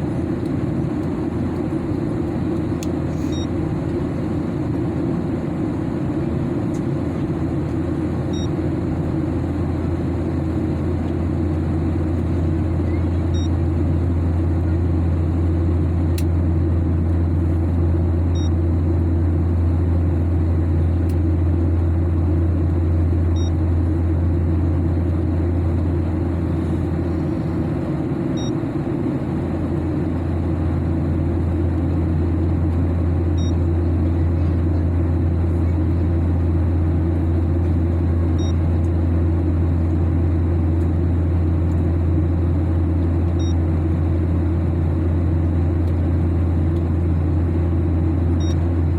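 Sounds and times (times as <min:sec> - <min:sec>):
airliner cabin drone: 0:00.0 - 0:48.9.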